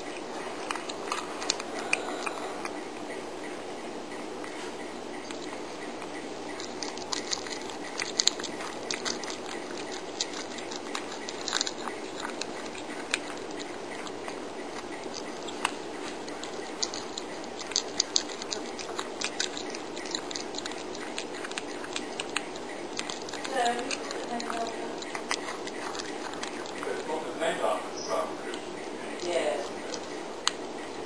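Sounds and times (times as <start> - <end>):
cat chewing meat: 0.0 - 31.0
steady hiss: 0.0 - 31.0.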